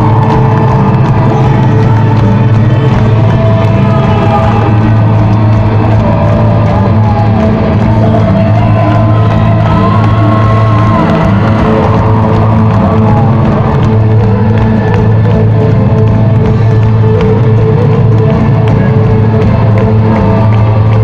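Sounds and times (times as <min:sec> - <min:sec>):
audience whoops and shouts: 0:00.0 - 0:21.0.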